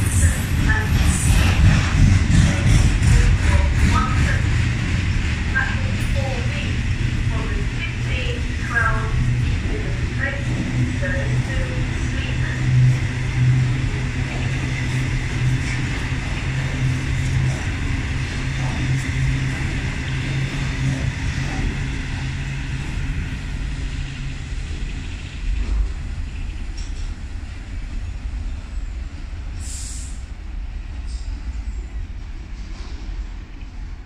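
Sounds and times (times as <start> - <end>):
low hum: 0.0 - 29.3
freight train wheels rumbling: 0.0 - 34.0.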